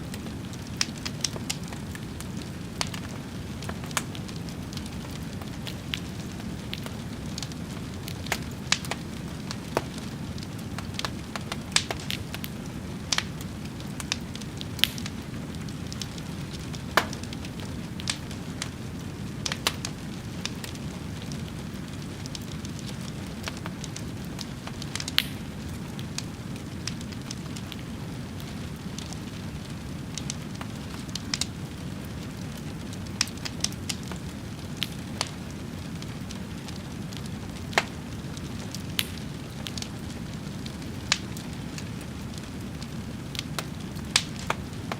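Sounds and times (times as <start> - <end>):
fire burning with crackles: 0.0 - 44.9.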